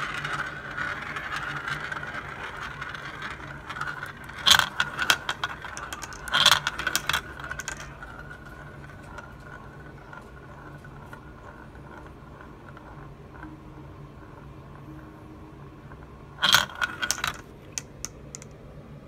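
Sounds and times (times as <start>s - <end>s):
glass marbles clattering: 0.0s - 13.5s, 16.4s - 18.5s
marble rolling in plastic bowl: 0.0s - 18.6s.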